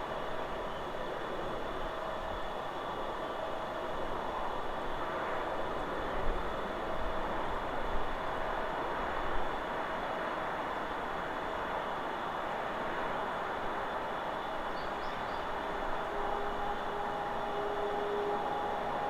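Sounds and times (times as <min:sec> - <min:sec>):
wind rushing through trees: 0:00.0 - 0:19.0.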